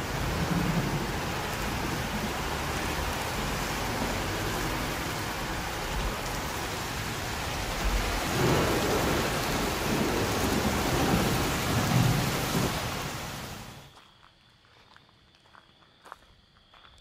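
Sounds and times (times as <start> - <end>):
heavy rain: 0.0 - 13.9
thunder rumble: 0.0 - 13.9.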